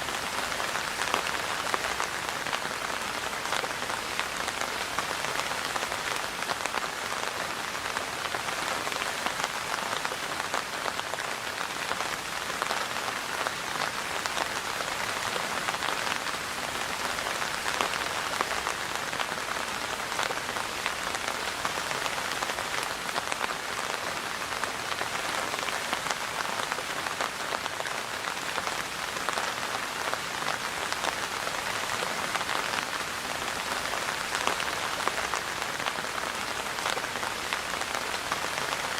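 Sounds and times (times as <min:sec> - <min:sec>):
rain pattering on a surface: 0:00.0 - 0:38.9.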